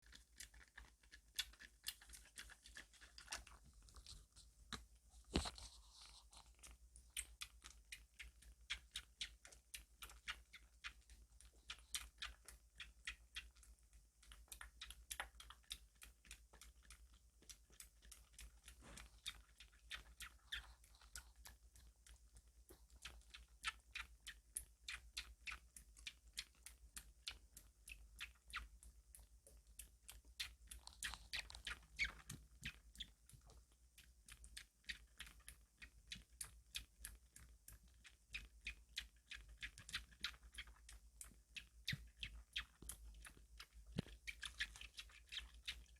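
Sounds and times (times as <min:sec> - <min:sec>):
kitten eating smacking clicks: 0:00.0 - 0:45.9.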